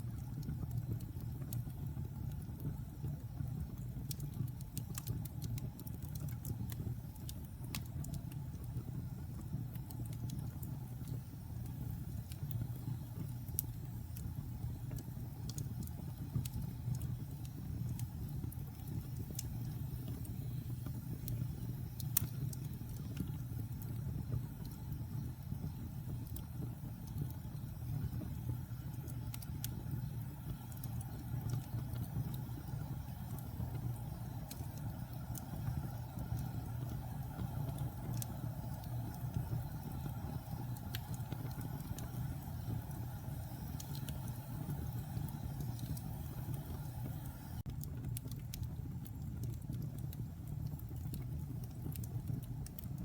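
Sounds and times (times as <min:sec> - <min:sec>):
fire crackles and pops: 0:00.0 - 0:53.0
wood fire rumbling: 0:00.0 - 0:53.0.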